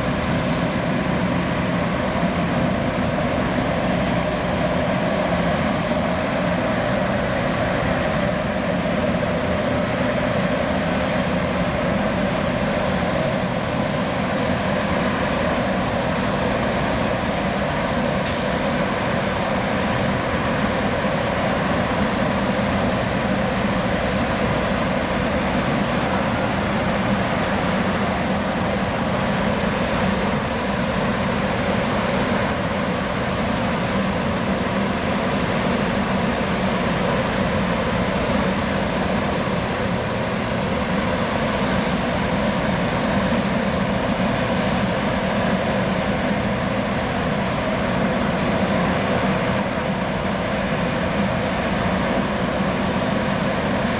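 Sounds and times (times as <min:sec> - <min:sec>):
gas turbines running: 0:00.0 - 0:53.9
high-pitched turbine whine: 0:00.0 - 0:53.9.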